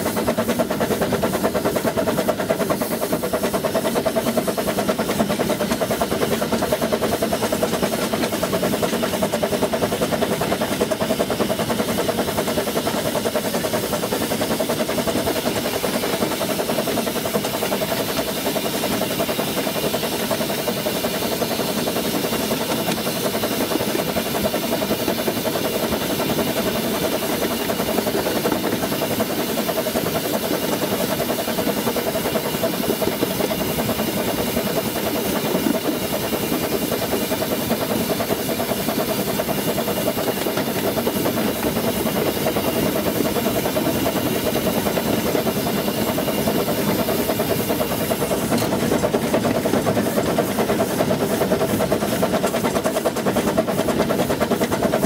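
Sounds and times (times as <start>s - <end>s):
locomotive rattling and clattering: 0.0s - 55.0s
steam hissing: 0.0s - 55.0s.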